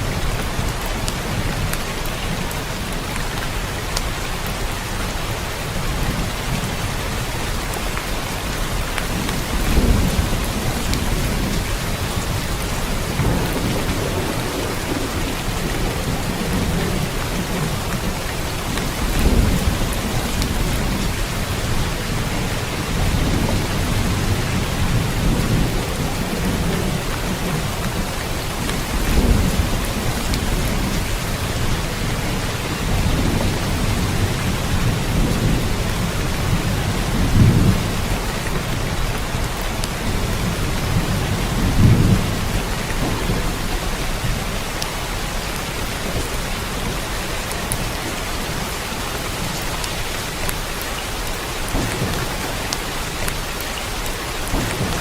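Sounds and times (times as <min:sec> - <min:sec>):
steady rain: 0:00.0 - 0:55.0
thunder rumbling: 0:05.8 - 0:50.4, 0:51.3 - 0:55.0.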